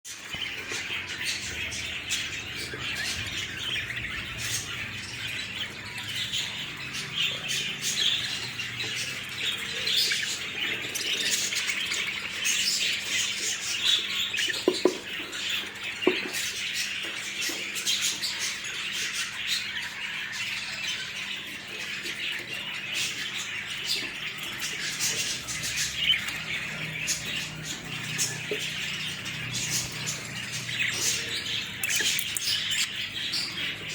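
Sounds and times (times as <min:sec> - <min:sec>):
budgerigars chirping and squawking: 0:00.1 - 0:33.9.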